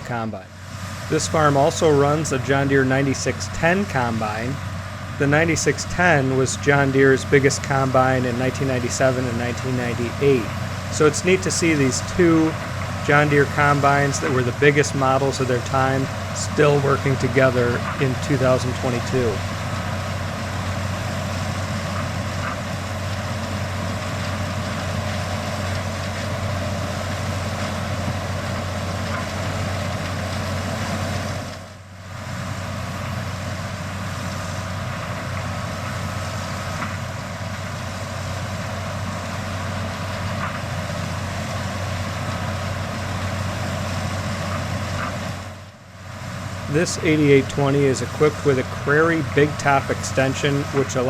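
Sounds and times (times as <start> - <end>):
combine engine drone: 0.0 - 51.0
machinery noise: 0.0 - 51.0.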